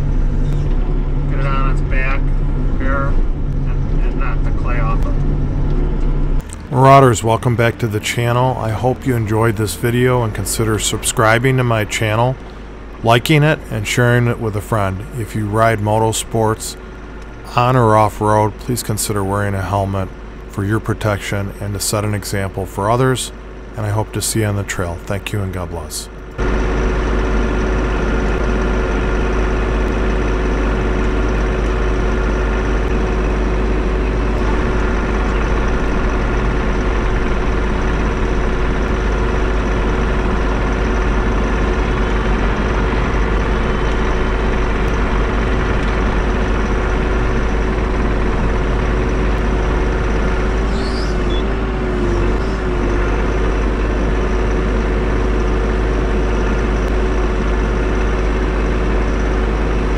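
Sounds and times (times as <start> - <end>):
constant whine: 0.0 - 59.9
excavator diesel engine running: 0.0 - 59.9.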